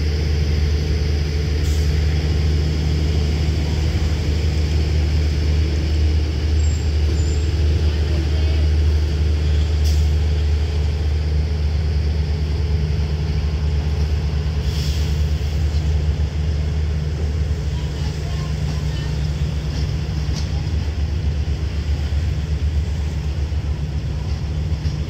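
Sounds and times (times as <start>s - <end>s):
diesel locomotive rumble: 0.0s - 25.0s
passenger train rolling past: 0.0s - 25.0s.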